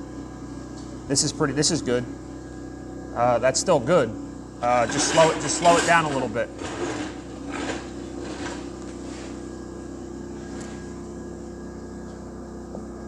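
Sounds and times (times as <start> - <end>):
welding machine electrical hum: 0.0 - 13.0.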